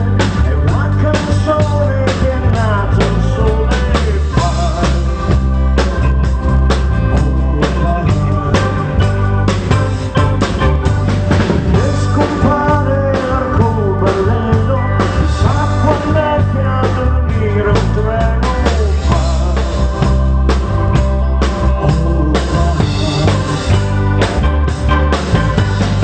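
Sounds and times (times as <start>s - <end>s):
bass line: 0.0s - 26.0s
drum kit beat: 0.0s - 26.0s
live rock band playing: 0.0s - 26.0s
wavering lead melody: 0.0s - 26.0s.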